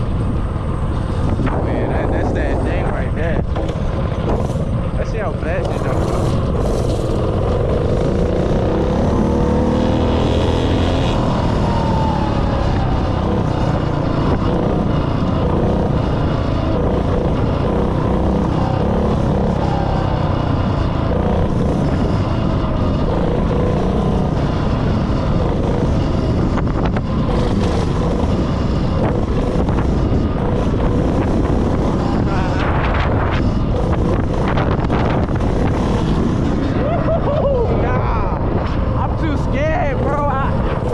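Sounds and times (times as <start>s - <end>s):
mini bike engine revving: 0.0s - 40.9s
wind on microphone: 0.0s - 40.9s.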